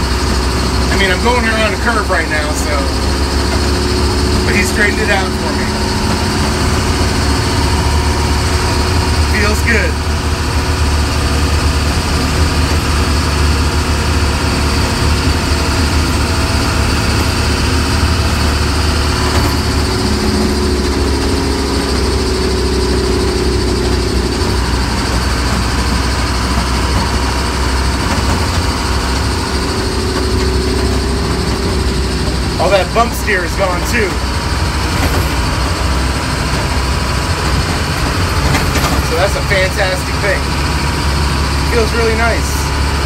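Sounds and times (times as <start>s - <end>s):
diesel engine running: 0.0s - 43.0s
road and cab noise: 0.0s - 43.0s.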